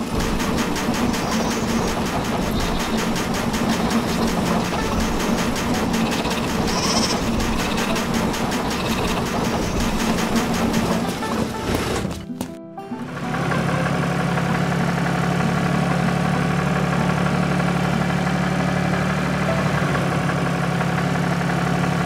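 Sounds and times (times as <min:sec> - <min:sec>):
steady machine hum: 0:00.0 - 0:12.0, 0:13.1 - 0:22.0
rapid mechanical clatter: 0:00.0 - 0:12.2, 0:14.2 - 0:22.0.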